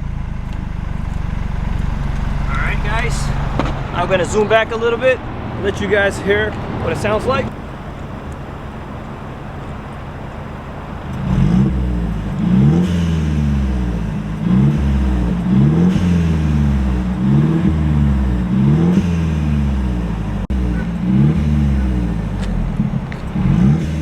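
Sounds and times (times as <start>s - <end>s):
car engine idling: 0.0s - 24.0s
engine throttle blips: 0.0s - 24.0s.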